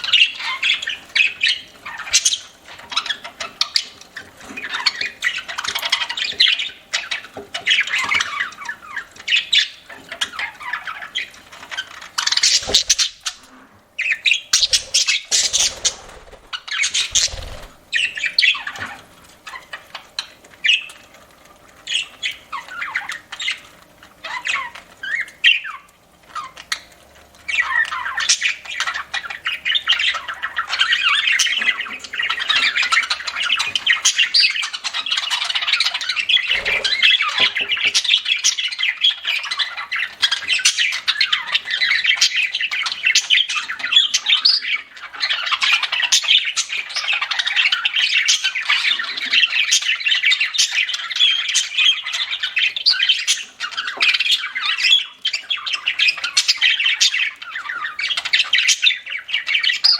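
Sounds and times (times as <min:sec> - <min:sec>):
budgerigars chirping and squawking: 0:00.0 - 0:21.1, 0:21.8 - 0:59.9.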